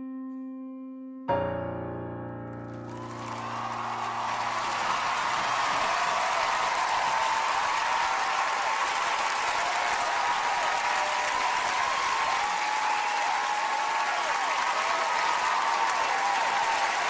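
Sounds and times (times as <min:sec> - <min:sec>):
audience applauding and cheering: 0:02.6 - 0:17.0.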